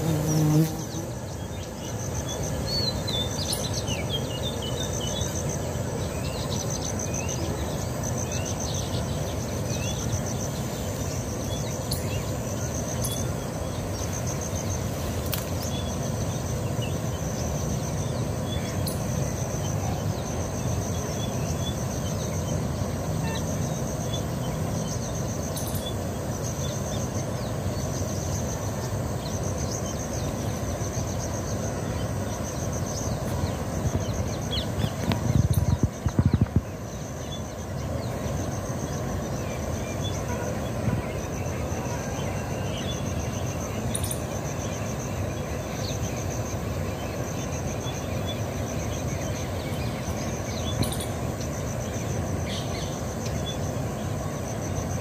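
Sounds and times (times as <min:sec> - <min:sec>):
insect chirping in pulses: 0:00.0 - 0:55.0.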